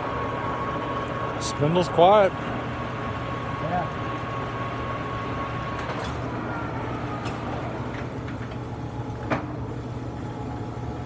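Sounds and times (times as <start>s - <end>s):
lathe humming: 0.0s - 9.2s.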